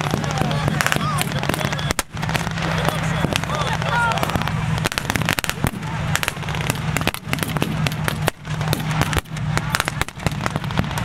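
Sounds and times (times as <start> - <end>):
rifle shots: 0.0 - 11.0
tank engines rumbling: 0.0 - 11.0.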